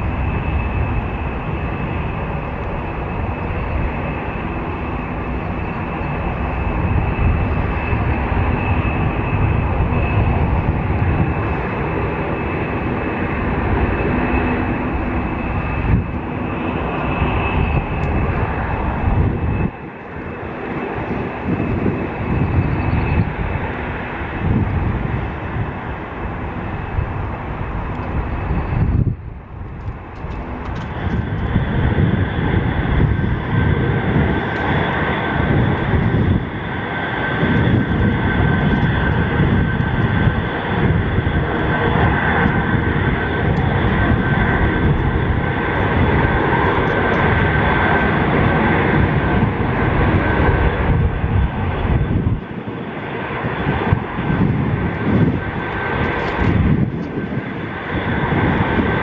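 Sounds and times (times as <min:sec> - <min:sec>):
jet engines at high power: 0:00.0 - 0:59.0.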